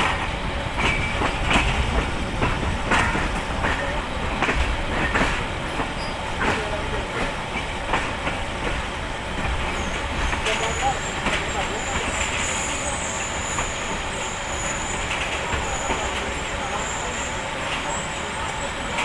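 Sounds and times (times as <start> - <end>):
train low rumble: 0.0 - 19.0
wheels clacking over rail joints: 0.0 - 19.0.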